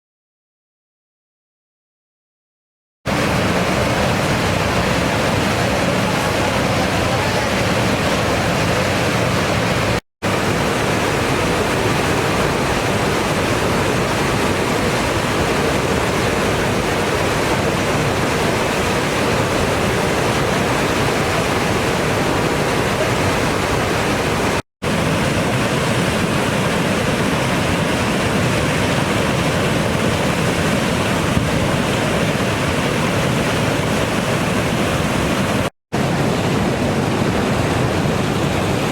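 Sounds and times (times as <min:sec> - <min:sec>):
river rushing: 0:03.1 - 0:38.9.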